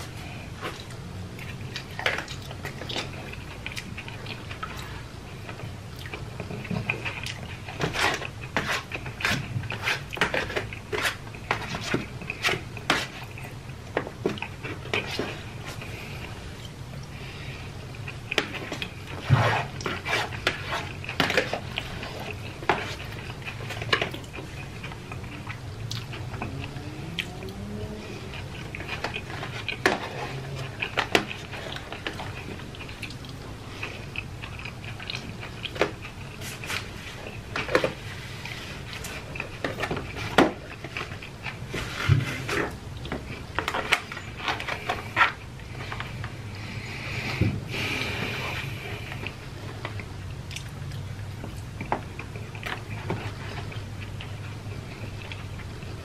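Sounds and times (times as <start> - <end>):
man chewing: 0.0 - 56.0
steady low hum: 0.0 - 56.0.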